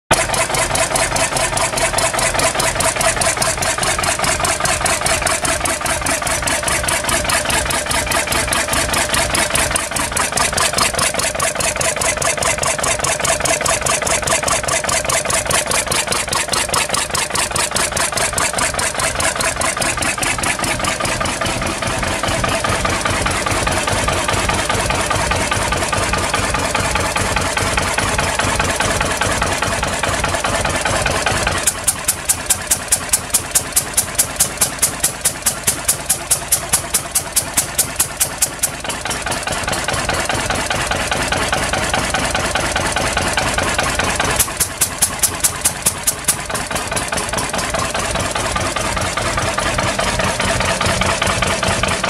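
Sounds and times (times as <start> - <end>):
stationary diesel engine running: 0.1 - 52.0.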